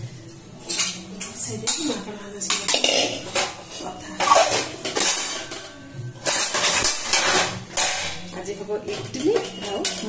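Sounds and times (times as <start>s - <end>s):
music playing: 0.0s - 10.0s
pots and utensils clattering: 0.0s - 10.0s.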